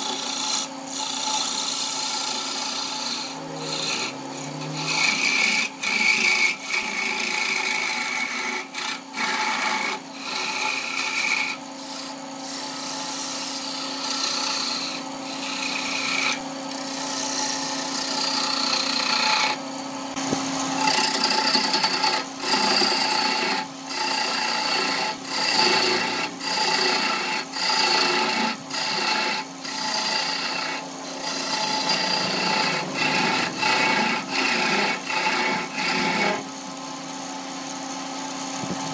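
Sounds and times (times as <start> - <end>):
turning tool scraping wood: 0.0 - 37.2
wood lathe hum: 0.0 - 38.9.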